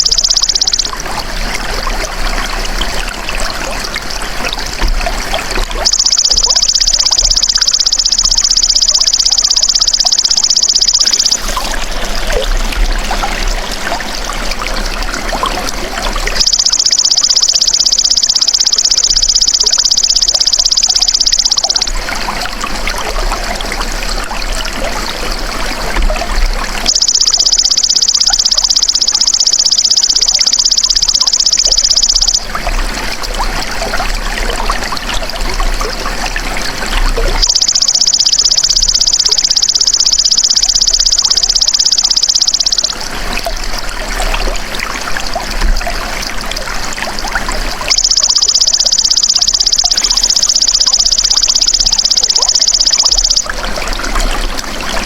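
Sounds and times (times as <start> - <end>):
trickling water: 0.0 - 55.0.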